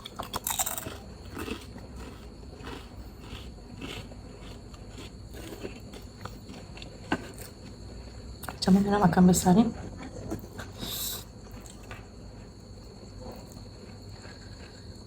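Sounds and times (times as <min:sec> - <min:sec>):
person chewing food: 0:00.0 - 0:08.6, 0:10.0 - 0:15.0.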